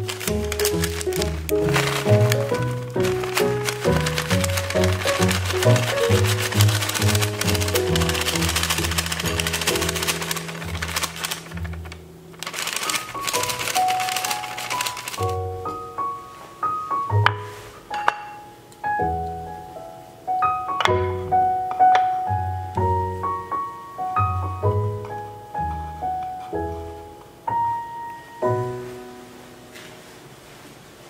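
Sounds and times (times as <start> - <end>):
slow piano melody: 0.0 - 30.5.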